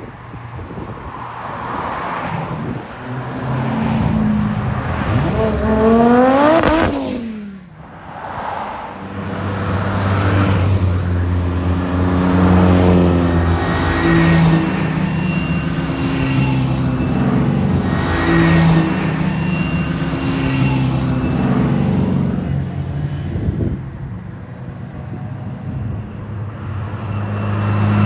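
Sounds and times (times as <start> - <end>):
racing cars passing at speed: 0.0 - 28.0.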